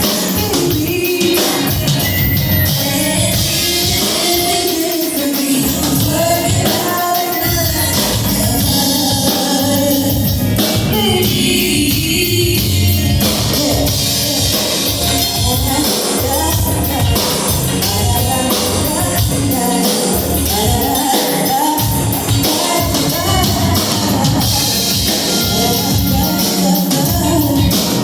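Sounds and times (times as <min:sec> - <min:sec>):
live band music: 0:00.0 - 0:28.0
person singing: 0:00.0 - 0:28.0
steady drum beat: 0:00.0 - 0:28.0.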